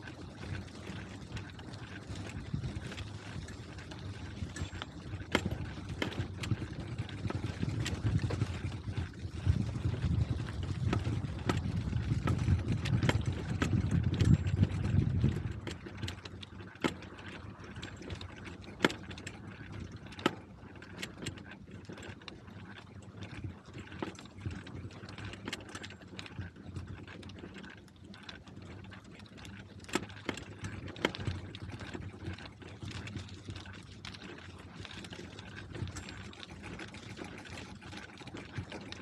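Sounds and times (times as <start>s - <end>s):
bicycle rolling rumble: 0.0s - 39.0s.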